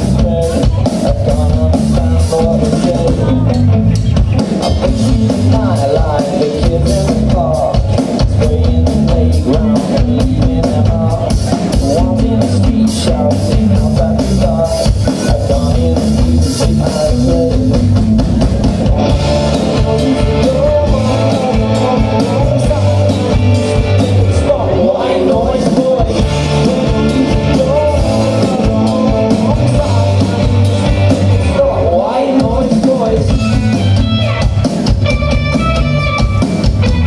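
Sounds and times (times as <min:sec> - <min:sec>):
person singing lead vocal: 0:00.0 - 0:34.7
rock band playing live: 0:00.0 - 0:37.0.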